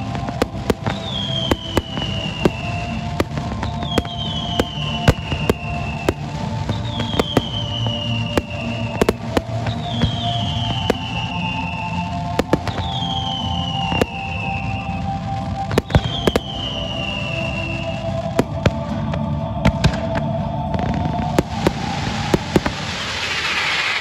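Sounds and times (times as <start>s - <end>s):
fireworks bangs and cracks: 0.0s - 24.0s
fireworks crackling hiss: 0.0s - 24.0s.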